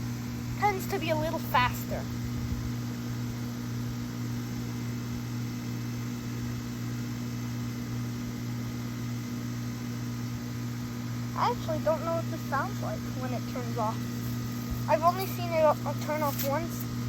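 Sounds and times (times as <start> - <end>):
compressor hum: 0.0 - 17.0
condenser fan rushing: 0.0 - 17.0.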